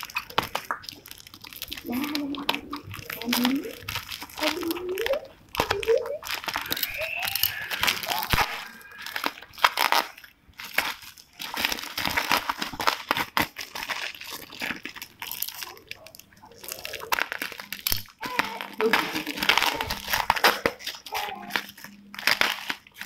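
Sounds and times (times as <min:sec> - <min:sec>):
plastic packaging crinkling and tearing: 0:00.0 - 0:23.0.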